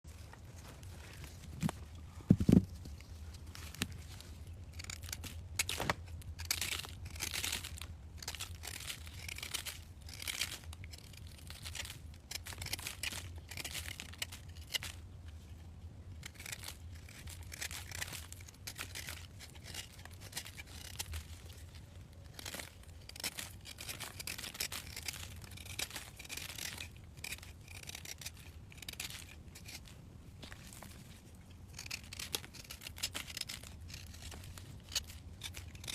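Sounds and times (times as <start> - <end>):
dry material tearing and crinkling: 3.4 - 15.0, 16.1 - 35.9.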